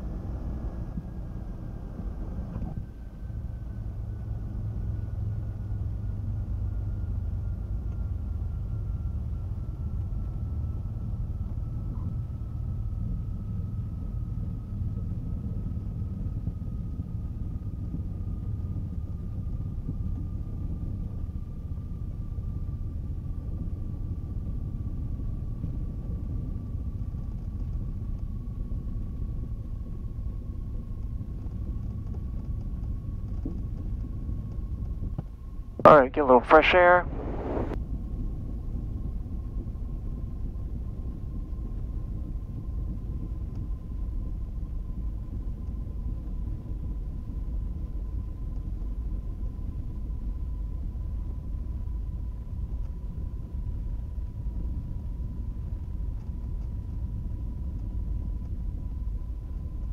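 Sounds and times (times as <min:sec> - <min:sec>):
aircraft engines low rumble: 0:00.0 - 0:59.9.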